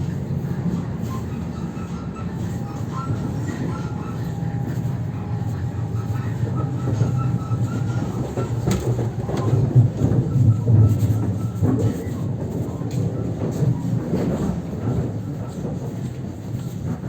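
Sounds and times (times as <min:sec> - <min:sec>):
train body creaking and squeaking: 0:00.0 - 0:17.0
train running rumble: 0:00.0 - 0:17.0.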